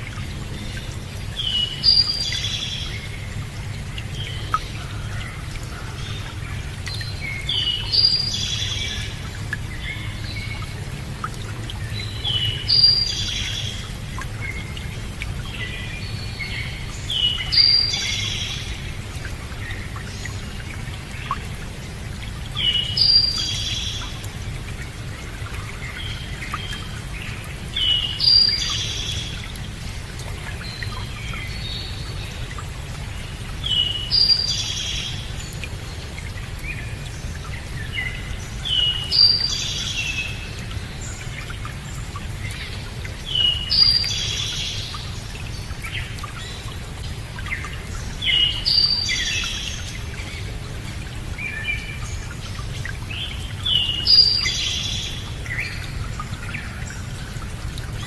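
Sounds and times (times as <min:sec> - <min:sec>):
songbird singing: 0:00.0 - 0:21.5, 0:22.5 - 0:58.0.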